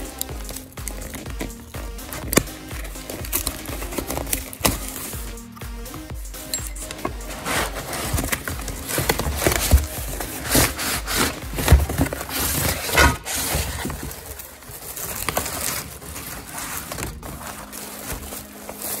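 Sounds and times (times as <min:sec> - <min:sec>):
cardboard and bubble wrap crinkling: 0:00.0 - 0:05.6, 0:06.4 - 0:19.0.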